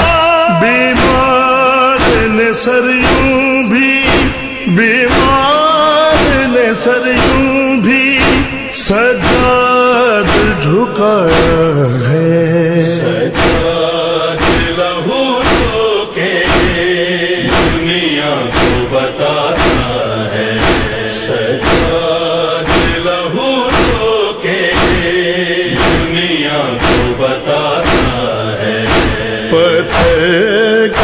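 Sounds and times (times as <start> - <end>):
rhythmic chest-beating: 0.0 - 31.0
voices chanting in chorus: 0.0 - 31.0.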